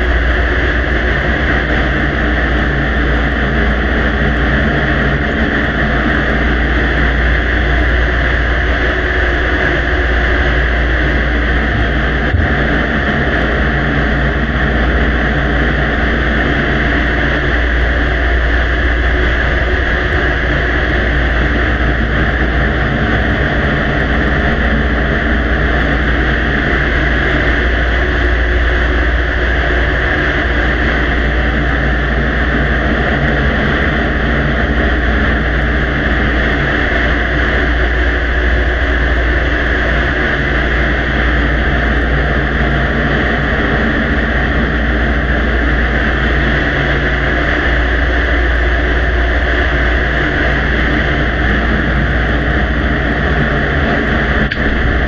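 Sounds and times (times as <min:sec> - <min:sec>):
low hum: 0:00.0 - 0:55.0
steady loud hiss: 0:00.0 - 0:55.0.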